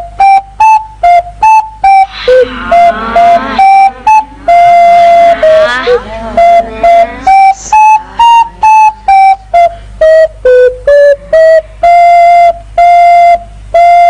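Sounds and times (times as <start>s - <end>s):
small flute playing tune: 0.0s - 14.0s.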